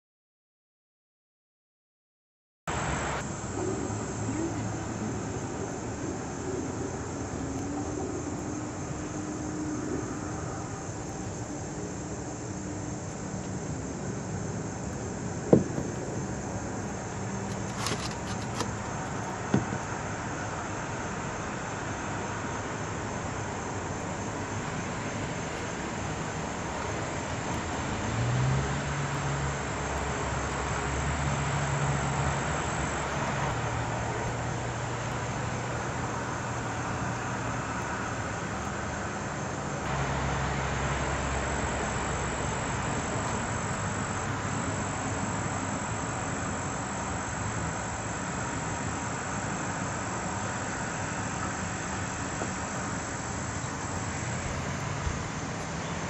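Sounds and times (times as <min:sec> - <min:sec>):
low engine hum: 0:02.7 - 0:56.0
outdoor background noise: 0:02.7 - 0:56.0.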